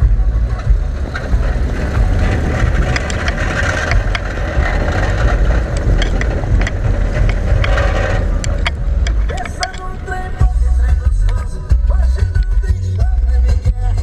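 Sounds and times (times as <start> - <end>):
car engine and tyres: 0.0 - 14.0
wind and road noise: 0.0 - 14.0
sharp ticks: 0.1 - 11.5.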